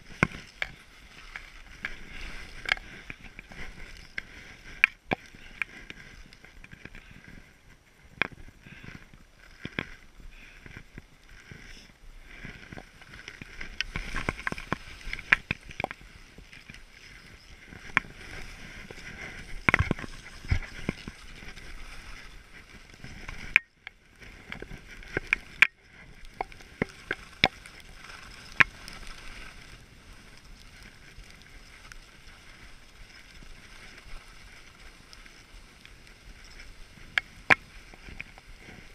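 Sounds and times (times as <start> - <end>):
skis scraping over snow: 0.0 - 38.9.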